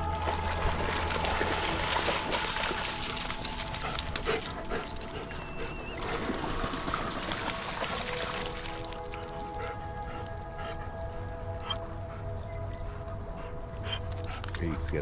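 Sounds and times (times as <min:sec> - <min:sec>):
dogs splashing through water: 0:00.0 - 0:10.5, 0:13.2 - 0:15.0.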